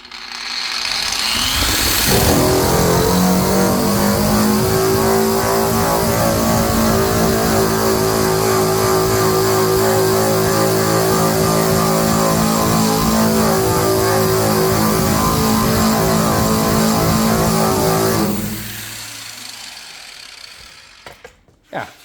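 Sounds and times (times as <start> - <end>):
abrasive wheel grinding metal: 0.0 - 21.0
power tool whine: 0.0 - 21.4.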